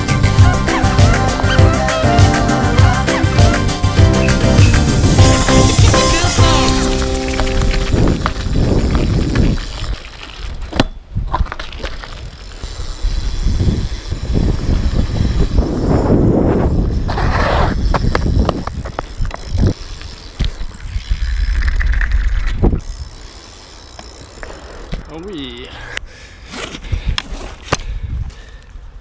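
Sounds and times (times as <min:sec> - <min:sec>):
bike tyres rumbling on asphalt: 0:00.0 - 0:28.6.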